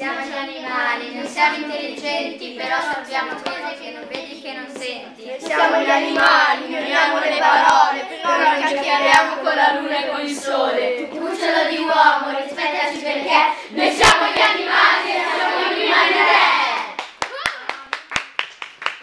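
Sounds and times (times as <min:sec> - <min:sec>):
children singing in unison: 0:00.0 - 0:04.2, 0:05.4 - 0:17.0.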